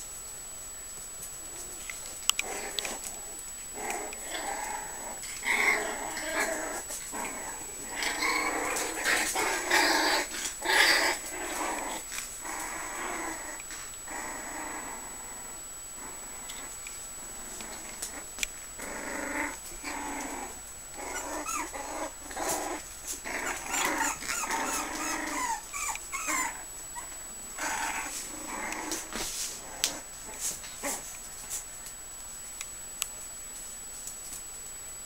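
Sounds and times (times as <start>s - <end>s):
puppies growling and yipping: 1.8s - 31.2s.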